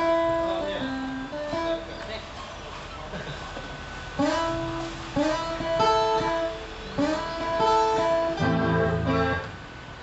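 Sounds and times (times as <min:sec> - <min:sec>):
acoustic guitar chords strummed: 0:00.0 - 0:02.0, 0:03.3 - 0:10.0.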